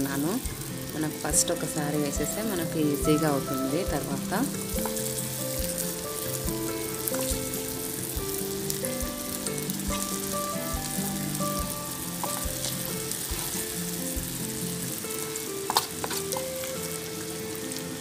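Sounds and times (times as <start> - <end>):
batter sizzling in hot oil: 0.0 - 18.0.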